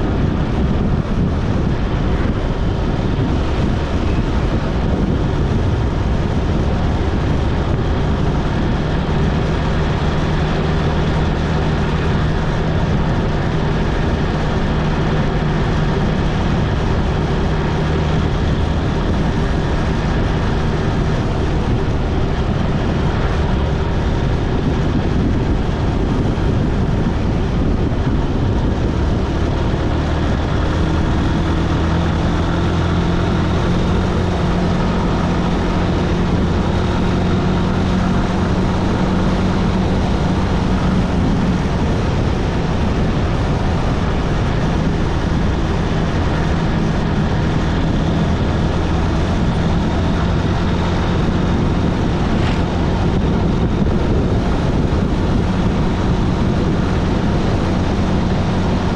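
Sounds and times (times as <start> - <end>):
motorcycle engine running: 0.0 - 58.9
wind and road rush: 0.0 - 58.9.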